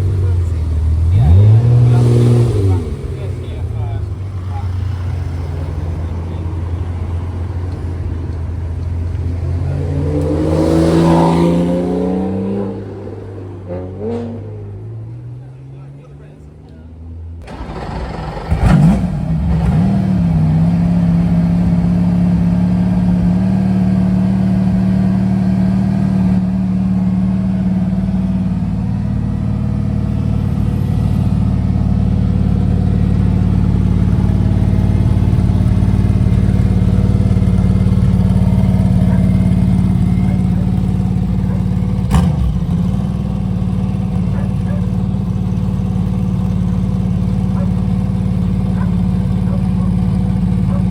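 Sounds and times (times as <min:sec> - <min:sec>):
race car engine idling loudly: 0:00.0 - 0:09.8, 0:17.4 - 0:50.9
race car engine starting: 0:00.0 - 0:50.9.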